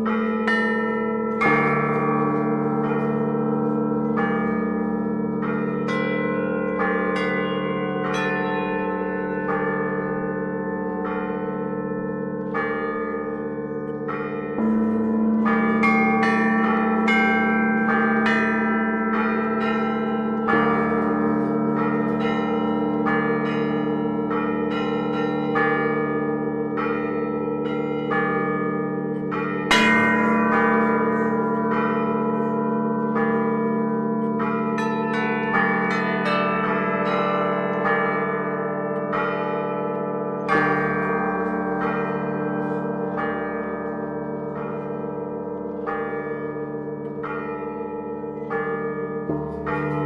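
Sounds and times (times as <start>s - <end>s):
hum of large bells: 0.0s - 50.0s.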